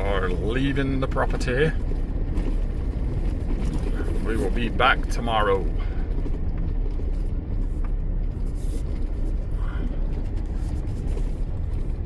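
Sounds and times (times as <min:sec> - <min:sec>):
vehicle interior road rumble: 0:00.0 - 0:12.0.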